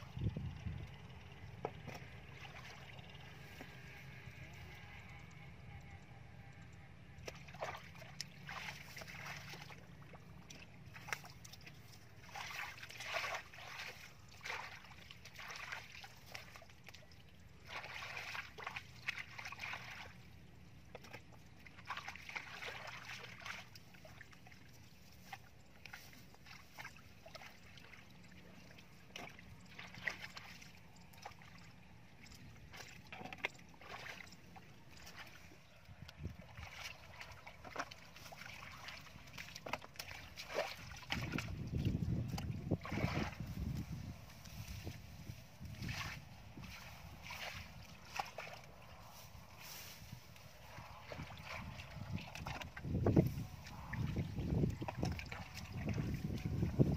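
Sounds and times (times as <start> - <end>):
splashing in shallow muddy water: 0.0 - 56.9.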